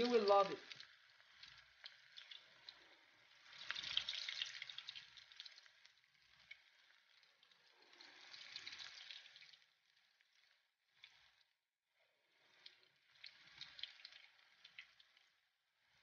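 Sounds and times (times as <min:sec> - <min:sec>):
oil sizzling and crackling: 0:00.0 - 0:11.6, 0:12.2 - 0:16.0.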